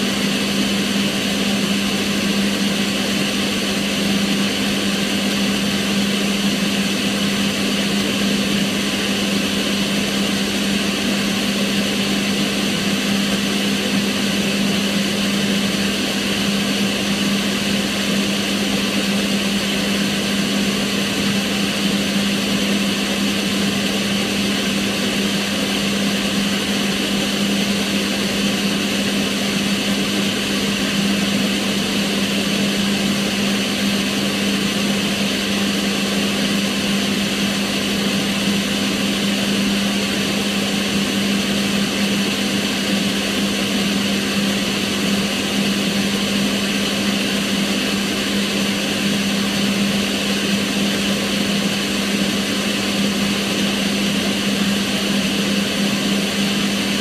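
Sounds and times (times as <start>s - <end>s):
extractor fan running: 0.0s - 57.0s.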